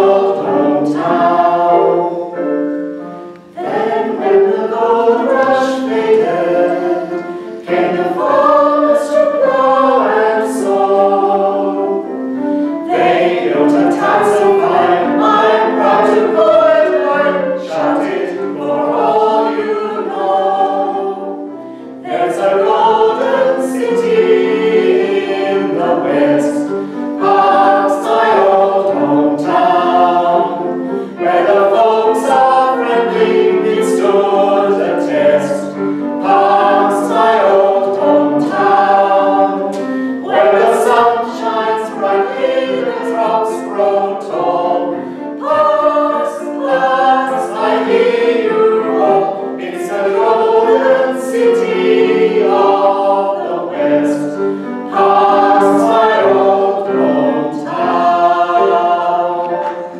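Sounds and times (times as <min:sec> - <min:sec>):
mixed voices singing in harmony: 0:00.0 - 0:59.9.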